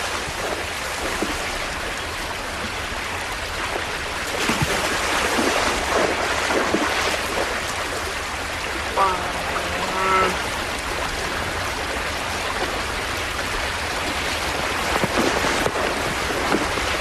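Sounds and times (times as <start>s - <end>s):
rushing stream water: 0.0s - 17.0s
water splashes: 0.0s - 17.0s.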